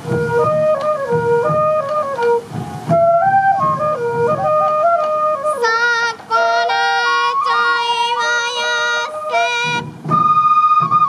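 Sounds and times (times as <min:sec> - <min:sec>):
bamboo flute melody: 0:00.0 - 0:11.0
brighter melodic line: 0:00.0 - 0:11.0.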